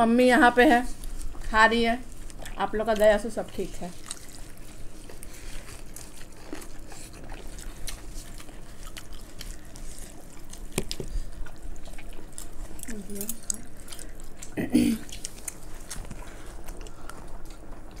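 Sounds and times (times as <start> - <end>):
wet chewing and mouth smacks: 2.1 - 18.0.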